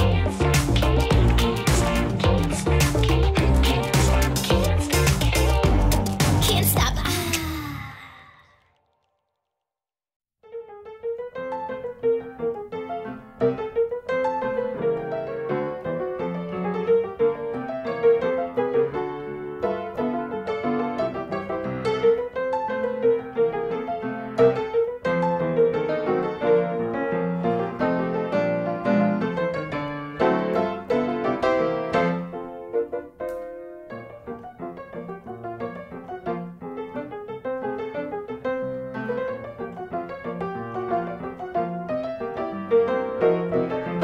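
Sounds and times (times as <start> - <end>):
piano music: 0.0 - 7.0, 10.4 - 44.0.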